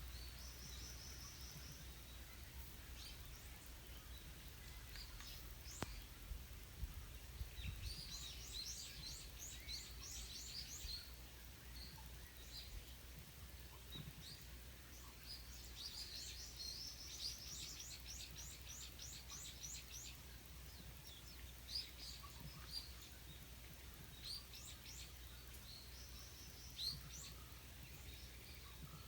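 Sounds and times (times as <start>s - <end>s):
low steady hum: 0.0s - 29.0s
small birds chirping: 0.0s - 29.0s.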